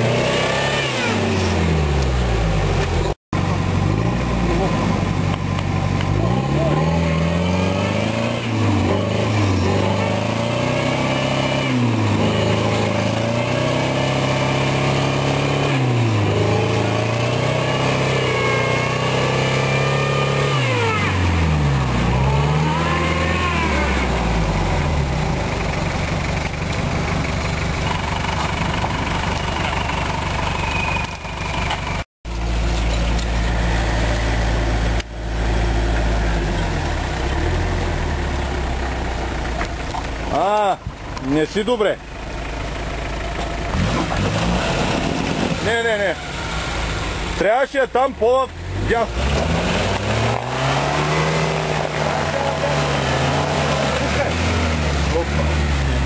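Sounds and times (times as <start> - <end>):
car engine running steadily: 0.0 - 56.0
turbo engine revving: 0.0 - 56.0.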